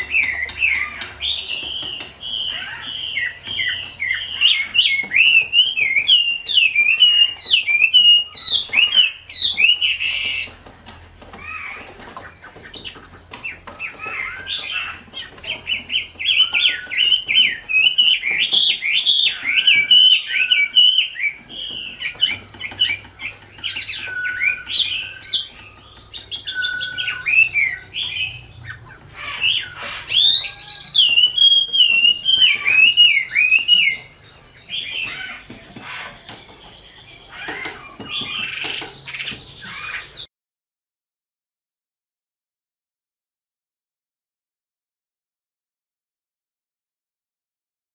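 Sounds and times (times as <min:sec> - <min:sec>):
songbird singing: 0:00.0 - 0:40.3.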